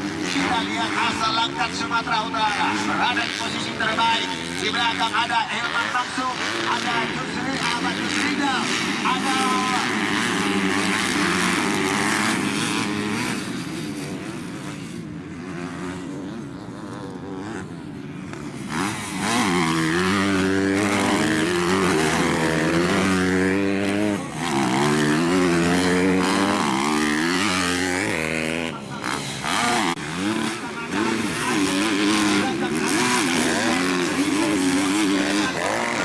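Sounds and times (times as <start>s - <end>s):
racing motorcycles revving: 0.0s - 36.0s.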